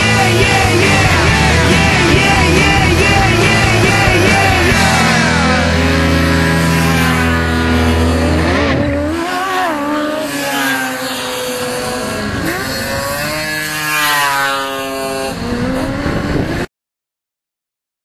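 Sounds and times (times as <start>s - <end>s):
racing buggy engine revving: 0.0s - 16.7s.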